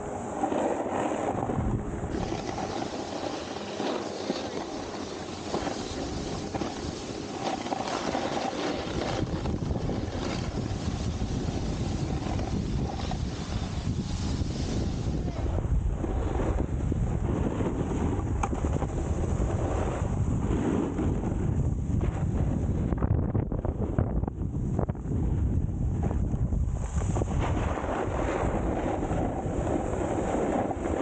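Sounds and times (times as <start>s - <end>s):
snowboard scraping icy snow: 0.0s - 23.1s, 26.8s - 31.0s
wind rushing over microphone: 0.0s - 31.0s.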